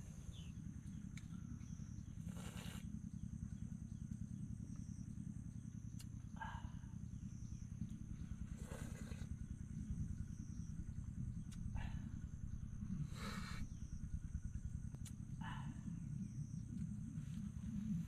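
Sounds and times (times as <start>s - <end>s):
insects chirring: 0.0s - 18.0s
low steady rumble: 0.0s - 18.0s.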